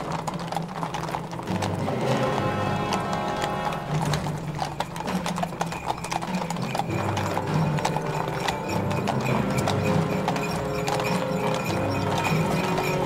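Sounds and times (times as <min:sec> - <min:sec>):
horse hooves on paving: 0:00.0 - 0:13.0.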